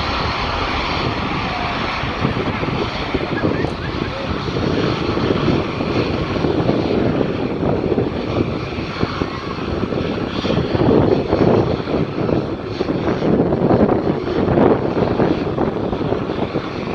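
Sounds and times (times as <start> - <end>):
jet engines roaring: 0.0 - 16.9.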